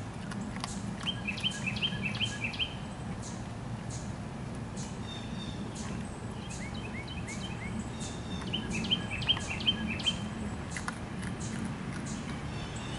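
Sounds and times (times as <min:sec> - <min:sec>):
small birds chirping: 0:00.0 - 0:12.9
steady low hum: 0:00.0 - 0:12.9.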